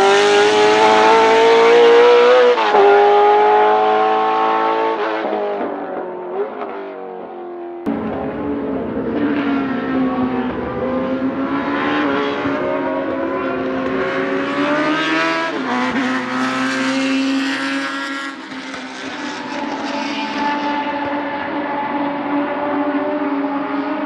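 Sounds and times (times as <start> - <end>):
racing car engine at speed: 0.0 - 24.0.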